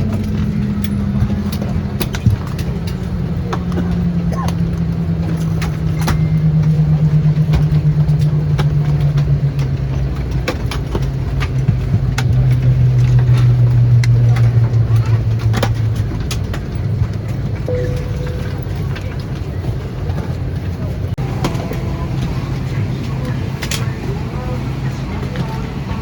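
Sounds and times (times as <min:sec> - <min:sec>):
aircraft cabin engine hum: 0:00.0 - 0:26.0.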